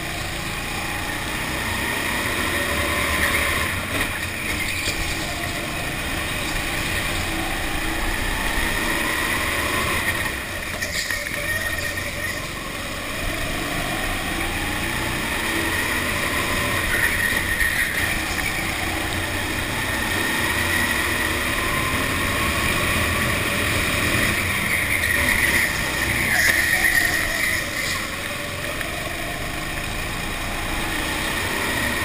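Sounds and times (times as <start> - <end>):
go-kart engine running: 0.0 - 32.0
high-pitched whine: 0.0 - 32.0.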